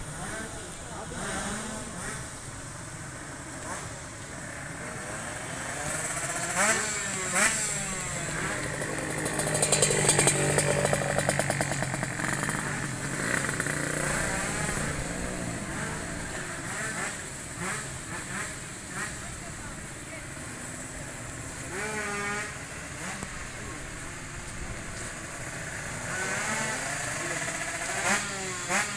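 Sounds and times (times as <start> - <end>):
motorcycle engines revving: 0.0 - 28.9
motorcycle passing at high revs: 0.0 - 28.9.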